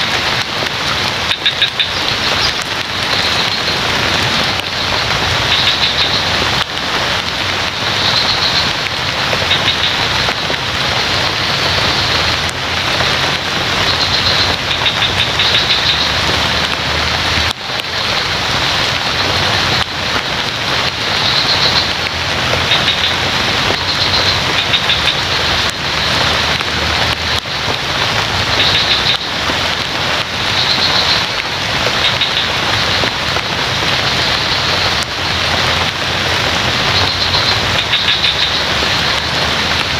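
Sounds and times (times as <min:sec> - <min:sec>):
heavy rain falling on leaves: 0:00.0 - 0:39.9.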